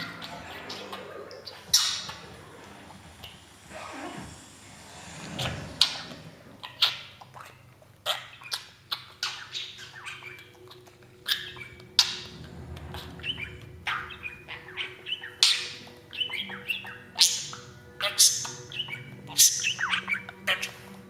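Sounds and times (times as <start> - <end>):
parrot squawking and chirping: 0.0 - 21.0.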